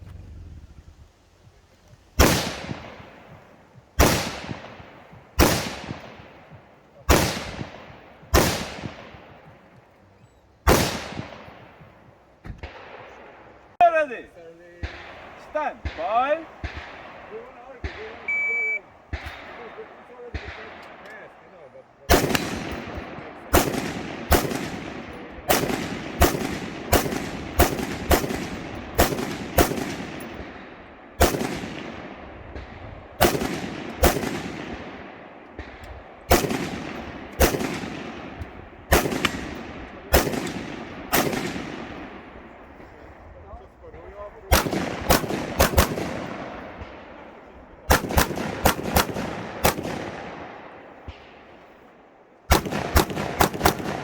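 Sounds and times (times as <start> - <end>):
rifle shots echoing: 2.2 - 10.0, 10.6 - 54.0.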